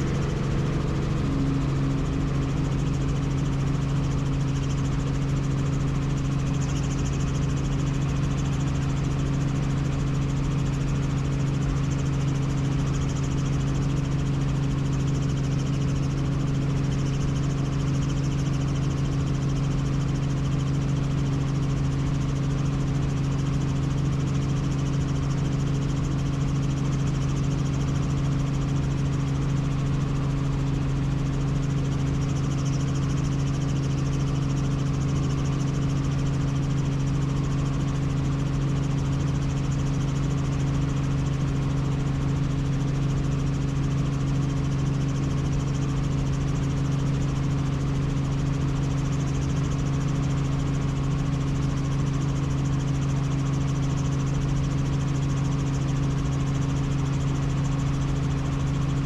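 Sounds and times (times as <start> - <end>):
helicopter engine and rotors: 0.0 - 59.0.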